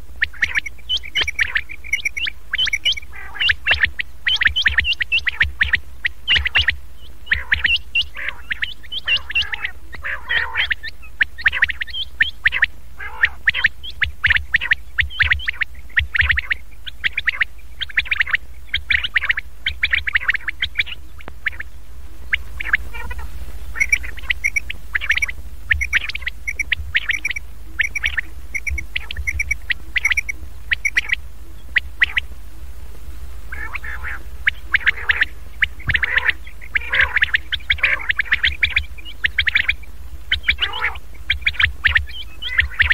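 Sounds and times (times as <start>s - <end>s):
recorded quail calls: 0.0s - 42.9s
steady low hum: 0.0s - 42.9s.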